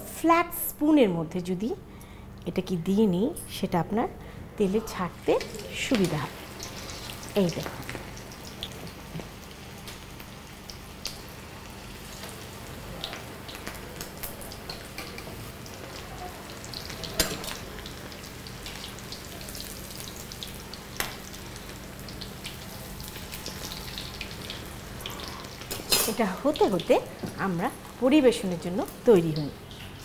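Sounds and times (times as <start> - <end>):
deep-frying sizzle and crackling: 5.0 - 30.0.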